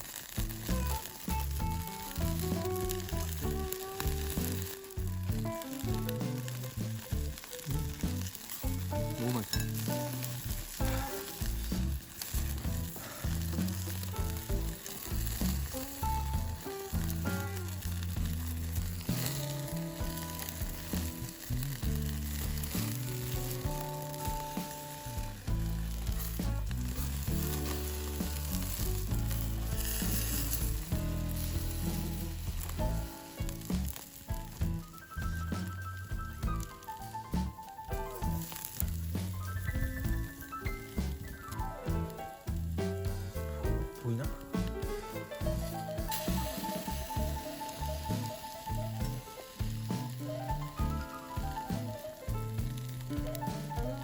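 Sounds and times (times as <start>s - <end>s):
background music with bass line: 0.0s - 54.0s
meat sizzling on a grill: 0.0s - 54.0s.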